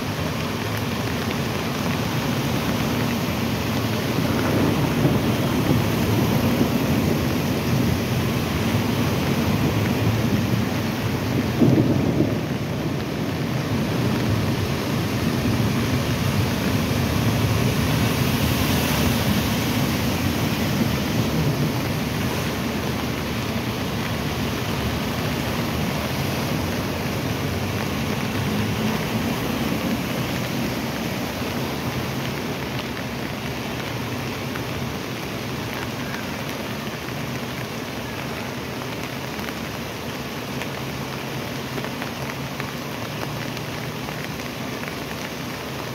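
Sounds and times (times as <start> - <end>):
floodwater rushing: 0.0 - 45.9
vehicles splashing through water: 0.0 - 45.9.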